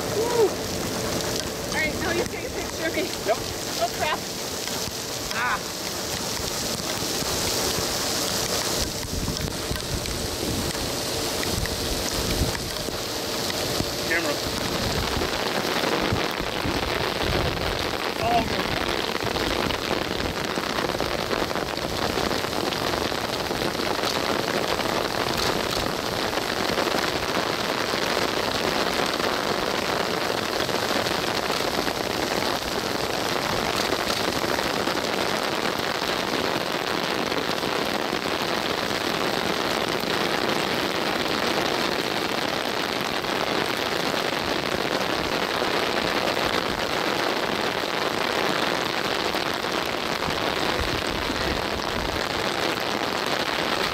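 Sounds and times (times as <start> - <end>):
muffled rain hiss: 0.0 - 53.9.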